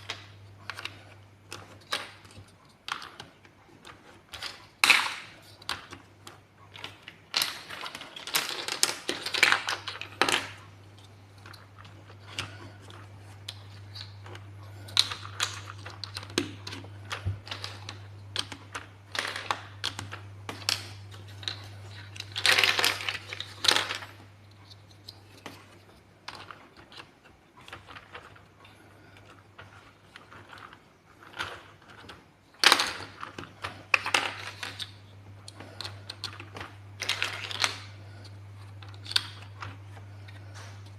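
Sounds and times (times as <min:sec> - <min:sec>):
plastic building blocks clicking: 0:00.0 - 0:40.9.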